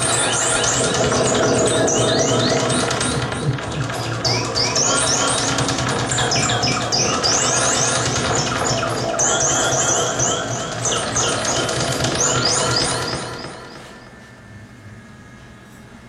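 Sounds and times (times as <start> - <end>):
high rising electronic chirps: 0.0 - 14.2
steady low hum: 0.0 - 16.0.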